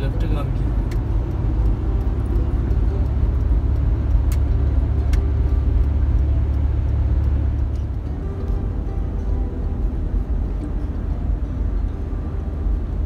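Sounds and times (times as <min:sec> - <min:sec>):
car cabin road noise: 0:00.0 - 0:13.0.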